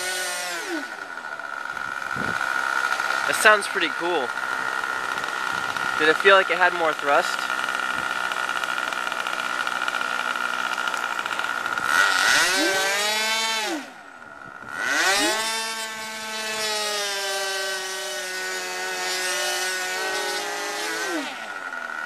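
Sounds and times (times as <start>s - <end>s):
electric ducted fans: 0.0s - 22.0s
model airplane engine running: 0.0s - 22.0s.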